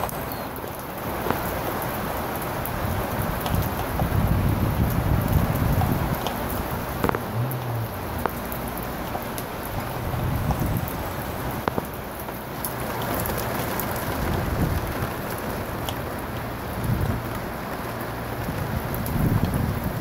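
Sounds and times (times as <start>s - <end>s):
rain falling on standing water: 0.0s - 20.0s.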